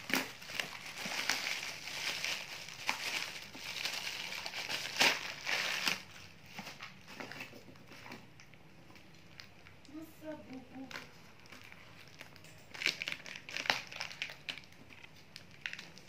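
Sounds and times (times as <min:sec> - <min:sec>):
plastic bag crinkling: 0:00.0 - 0:08.2, 0:10.6 - 0:16.0.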